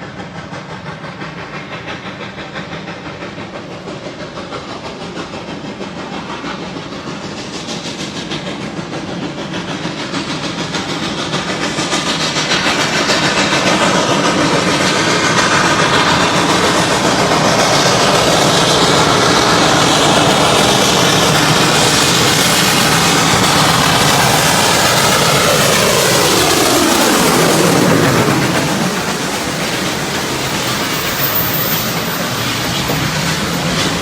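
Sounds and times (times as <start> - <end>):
train passing on rails: 0.0 - 34.0.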